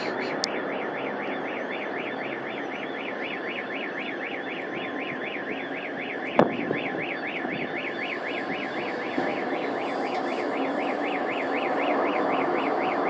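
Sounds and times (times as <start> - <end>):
car alarm siren warbling: 0.0 - 13.0.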